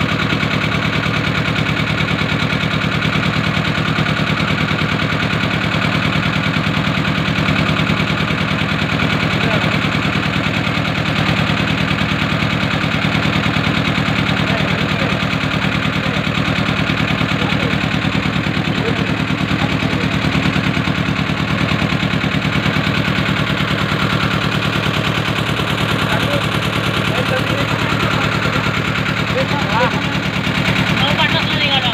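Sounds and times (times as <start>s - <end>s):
motor boat engine chugging: 0.0s - 31.9s.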